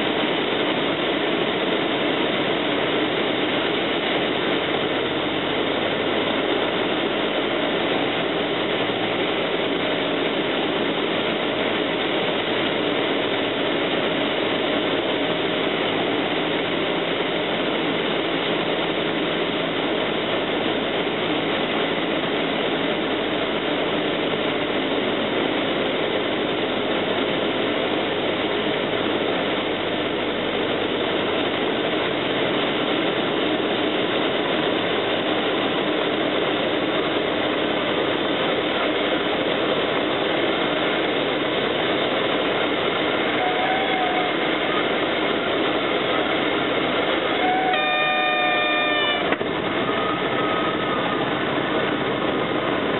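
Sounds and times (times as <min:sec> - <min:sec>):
plane engine droning: 0:00.0 - 0:52.9
rushing airflow: 0:00.0 - 0:52.9.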